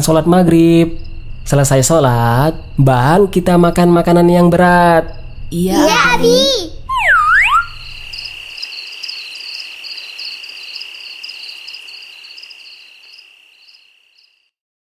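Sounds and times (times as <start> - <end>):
crickets chirping: 0.0 - 14.5.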